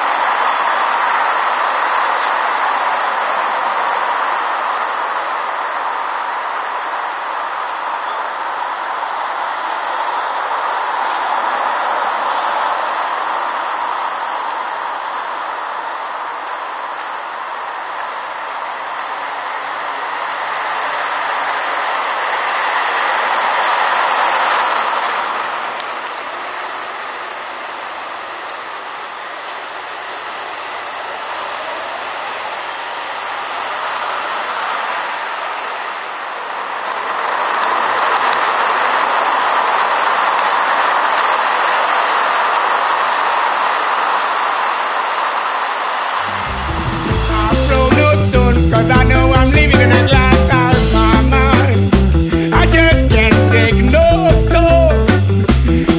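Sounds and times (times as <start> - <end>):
street noise hiss: 0.0 - 55.9.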